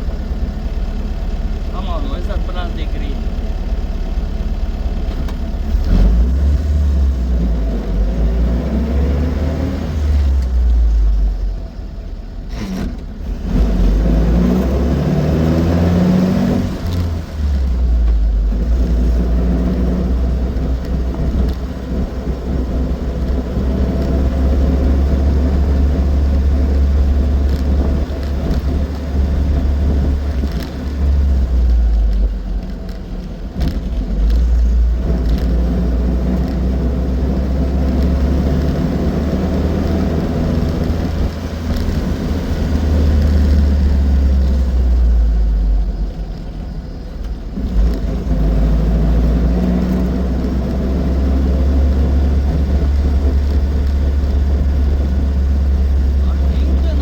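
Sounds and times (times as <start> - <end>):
small car engine running: 0.0 - 57.0.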